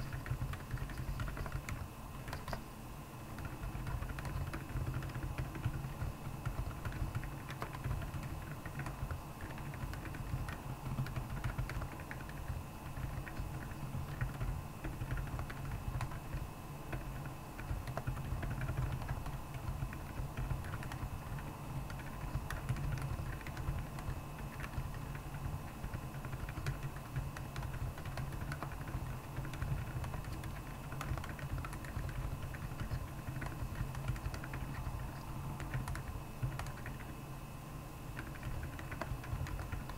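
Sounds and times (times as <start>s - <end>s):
mechanical keyboard typing: 0.0s - 2.6s, 3.3s - 37.2s, 38.2s - 39.9s.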